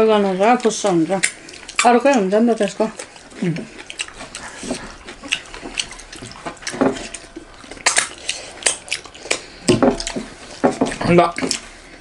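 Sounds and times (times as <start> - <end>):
wet eating and finger-licking: 0.2 - 11.8.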